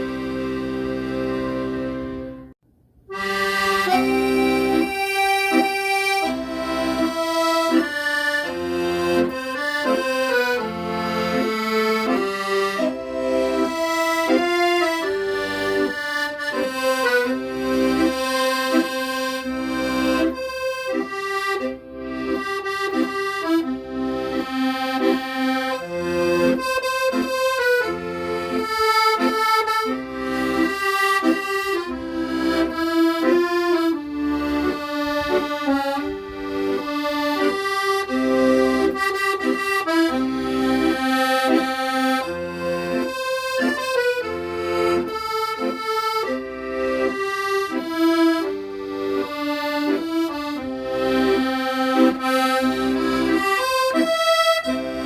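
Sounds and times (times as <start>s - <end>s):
accordion playing a melody: 0.0s - 55.0s.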